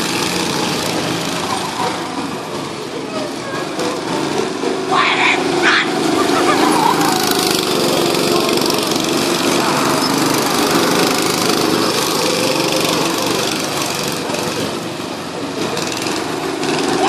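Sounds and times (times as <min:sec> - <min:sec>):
go-kart engines passing: 0:00.0 - 0:17.0.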